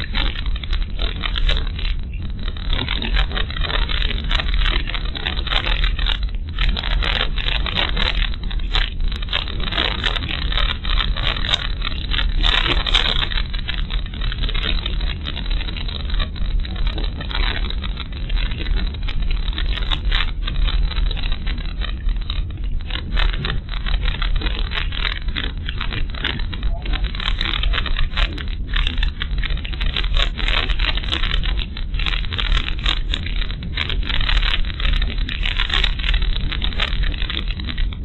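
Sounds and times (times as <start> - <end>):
crackling and rattling: 0.0 - 38.0.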